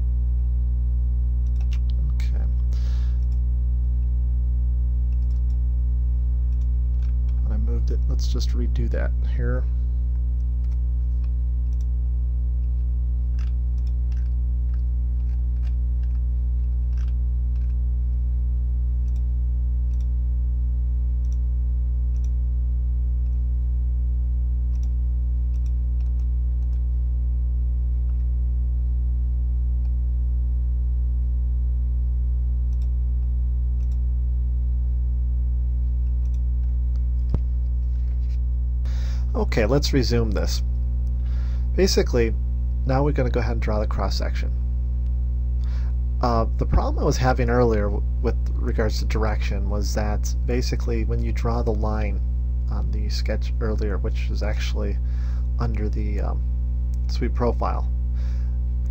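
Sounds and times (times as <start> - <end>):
electrical mains hum: 0.0 - 58.9.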